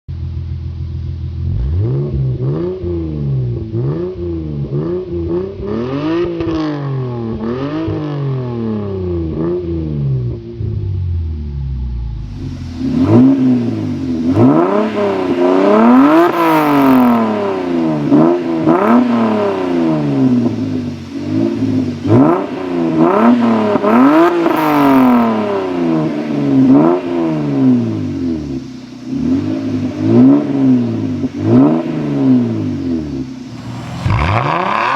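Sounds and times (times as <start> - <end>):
car engine revving: 0.3 - 34.9.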